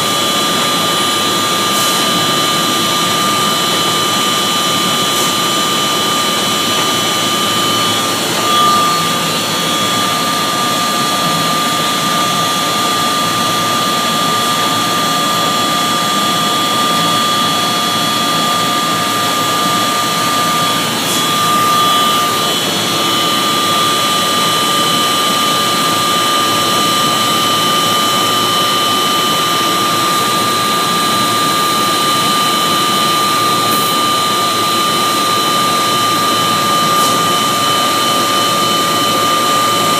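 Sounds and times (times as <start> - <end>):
high-pitched belt whine: 0.0 - 39.9
machine running noise: 0.0 - 39.9.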